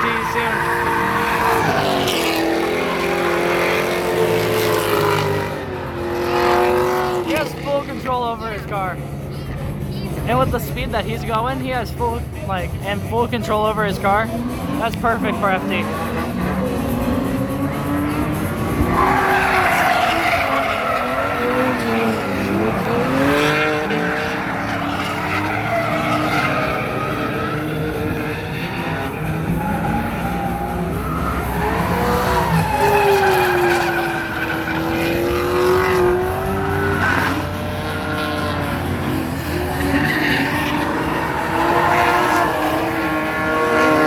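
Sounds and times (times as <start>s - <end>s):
car engines revving: 0.0s - 44.0s
tires squealing: 0.0s - 44.0s.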